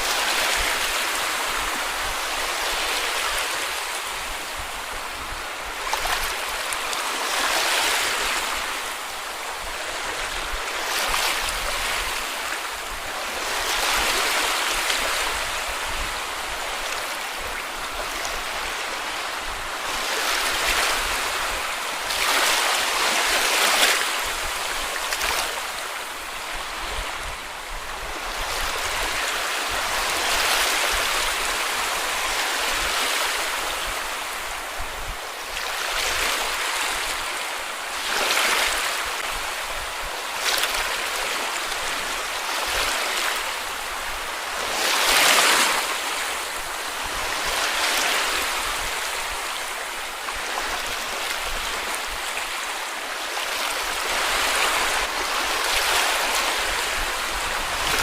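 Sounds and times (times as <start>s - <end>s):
small sea waves breaking on beach: 0.0s - 58.0s.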